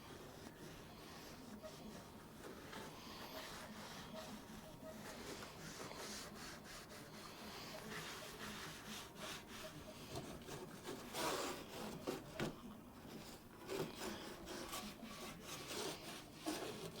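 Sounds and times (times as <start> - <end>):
hand scrubbing a surface: 0.0 - 12.5, 13.1 - 17.0.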